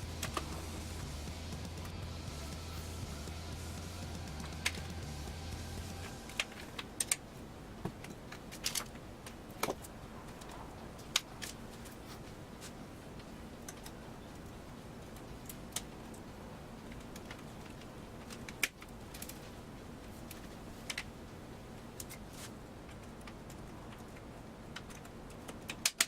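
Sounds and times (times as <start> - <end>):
small hard parts clicking: 0.0 - 12.0, 13.2 - 21.2, 21.8 - 26.0.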